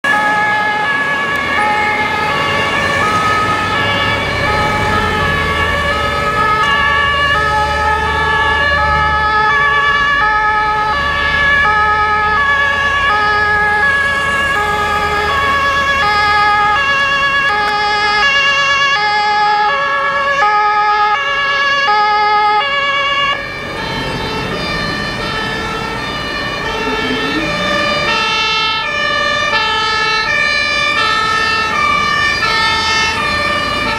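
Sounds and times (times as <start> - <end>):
low traffic rumble: 0.0 - 33.9
two-tone fire sirens: 0.0 - 33.9.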